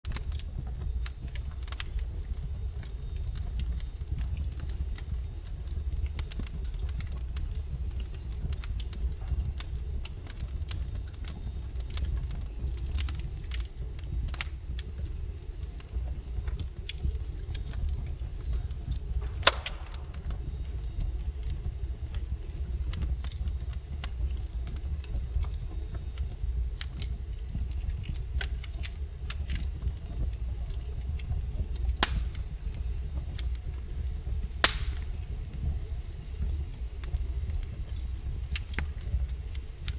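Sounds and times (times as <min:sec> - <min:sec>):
logs crackling in a fireplace: 0:00.0 - 0:39.9
low steady rumble: 0:00.0 - 0:39.9
sharp pops of burning wood: 0:00.1 - 0:39.9.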